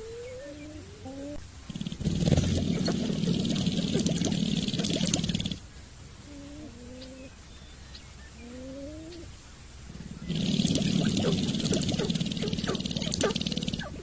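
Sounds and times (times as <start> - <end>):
low rising animal calls: 0.0 - 5.6, 8.4 - 14.0.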